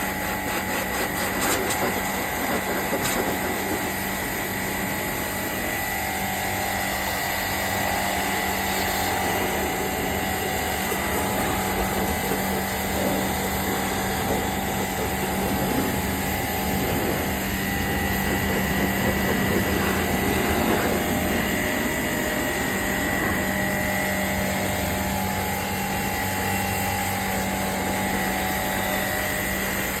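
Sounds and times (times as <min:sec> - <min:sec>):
machine running: 0:00.0 - 0:30.0.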